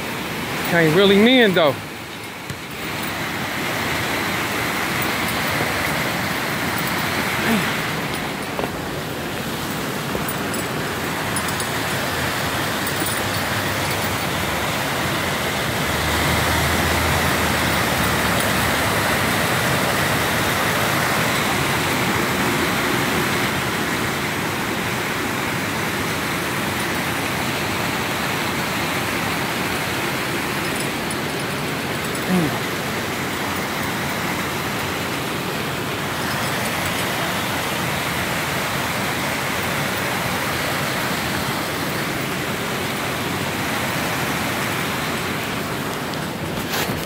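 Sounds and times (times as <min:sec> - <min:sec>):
rushing foaming water: 0:00.0 - 0:47.0.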